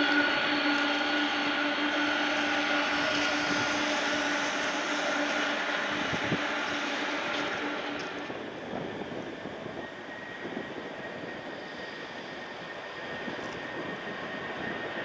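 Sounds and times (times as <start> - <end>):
jet engines running: 0.0 - 15.0
whining engine tones: 0.0 - 15.0.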